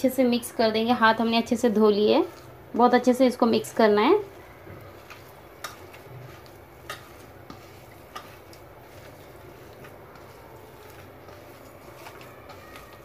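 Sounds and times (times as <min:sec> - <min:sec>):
hands kneading minced meat: 0:00.0 - 0:13.0.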